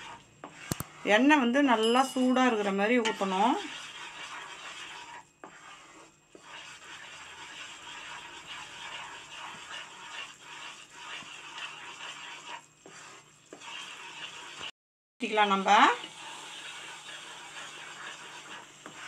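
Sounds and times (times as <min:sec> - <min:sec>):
batter sizzling and bubbling in oil: 0:00.0 - 0:19.0
wooden spatula scraping: 0:00.0 - 0:19.0.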